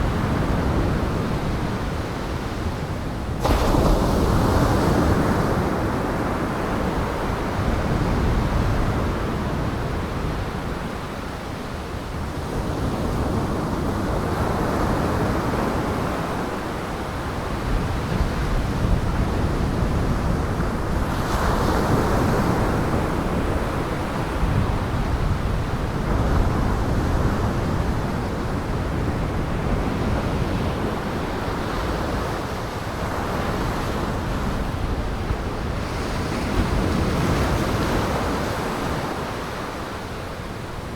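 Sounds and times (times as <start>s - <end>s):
strong wind: 0.0s - 40.9s.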